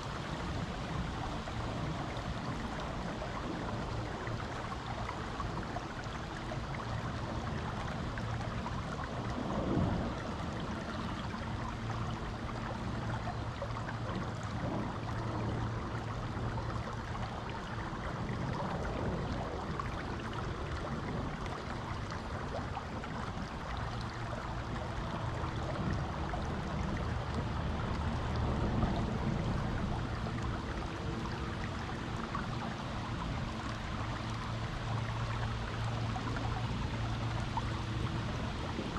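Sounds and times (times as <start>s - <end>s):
creek water flowing over rocks: 0.0s - 38.9s.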